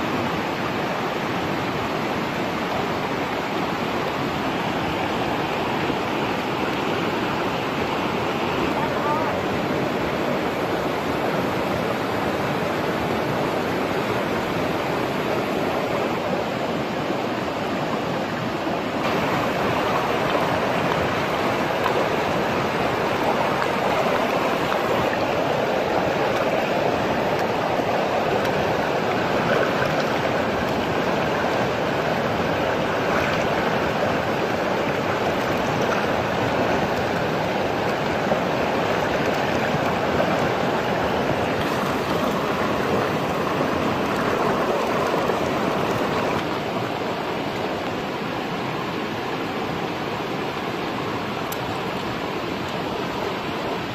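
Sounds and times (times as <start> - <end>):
river rapids rushing: 0.0 - 53.9.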